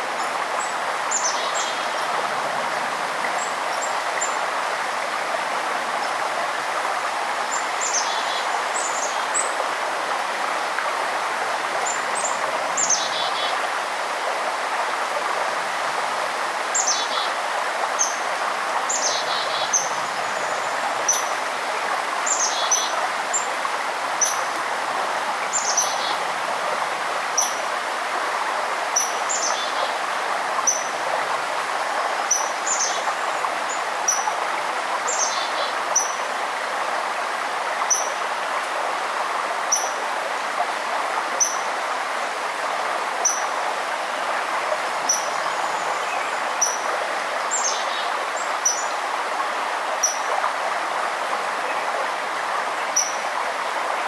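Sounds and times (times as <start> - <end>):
forest river rushing: 0.0 - 54.0.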